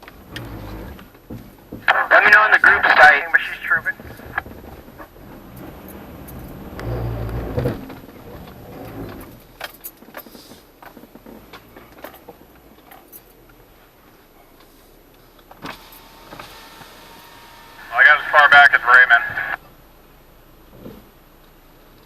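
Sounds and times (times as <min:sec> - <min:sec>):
vehicle engine rumble: 0:00.0 - 0:22.0
vehicle rattles and clicks: 0:00.0 - 0:22.0.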